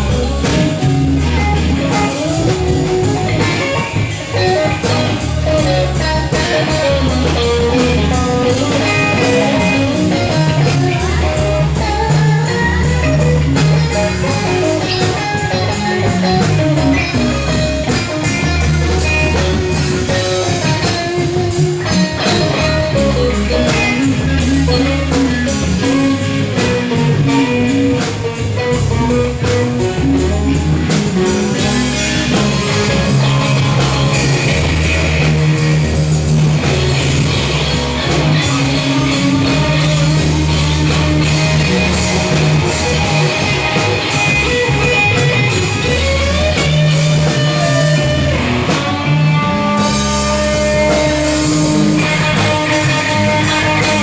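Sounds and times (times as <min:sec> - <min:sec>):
rock music: 0:00.0 - 0:54.0.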